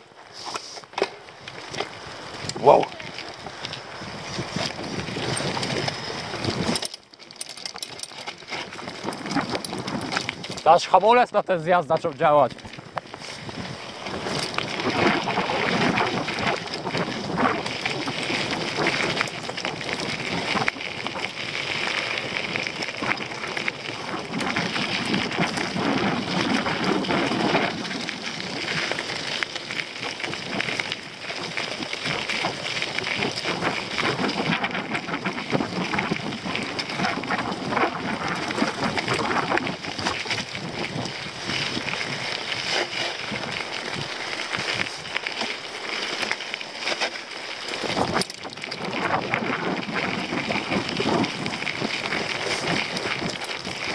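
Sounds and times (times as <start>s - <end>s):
bike rattling: 0.0s - 53.9s
tyres crunching over dirt and stones: 0.6s - 53.9s
wind buffeting microphone: 2.0s - 6.8s, 8.4s - 11.2s, 12.2s - 45.4s, 47.7s - 53.9s.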